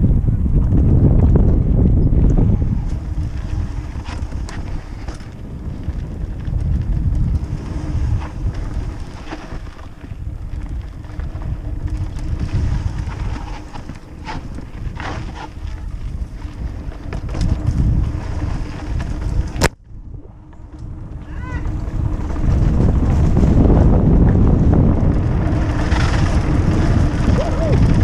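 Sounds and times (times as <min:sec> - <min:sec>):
tyres rumbling on dirt trail: 0:00.0 - 0:28.0
wind buffeting microphone: 0:00.0 - 0:28.0
bicycle clicks and rattles: 0:00.6 - 0:19.8, 0:20.4 - 0:28.0.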